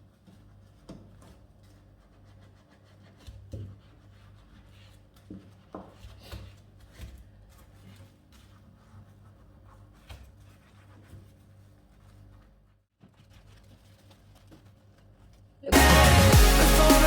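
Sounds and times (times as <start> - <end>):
sponge scrubbing a surface: 0.0 - 15.2.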